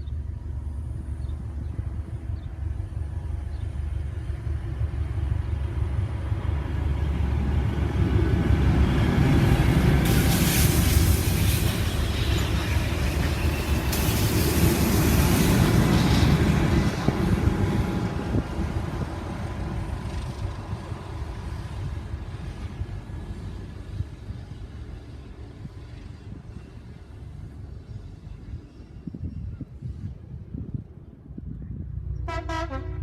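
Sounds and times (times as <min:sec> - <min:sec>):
train passing close by: 0:00.0 - 0:33.0.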